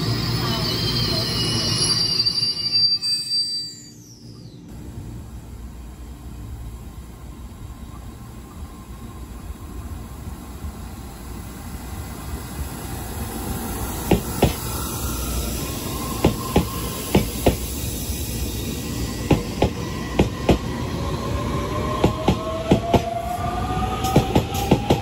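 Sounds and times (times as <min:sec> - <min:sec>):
train rumbling: 0:04.3 - 0:25.0.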